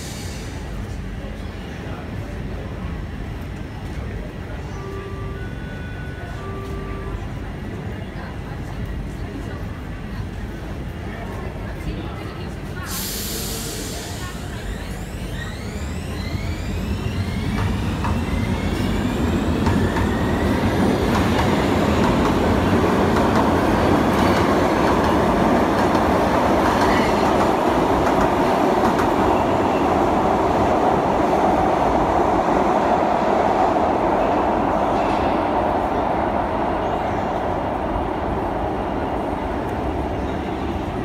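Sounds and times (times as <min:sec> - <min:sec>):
metro train whine accelerating: 0:00.0 - 0:41.0
train wheels rumbling on rails: 0:07.7 - 0:41.0.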